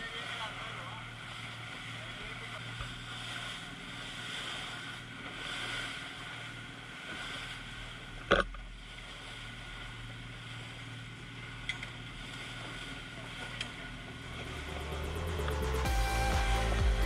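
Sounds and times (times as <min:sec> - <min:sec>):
wind and water hiss: 0:00.0 - 0:16.8
boat motor running: 0:00.0 - 0:17.0.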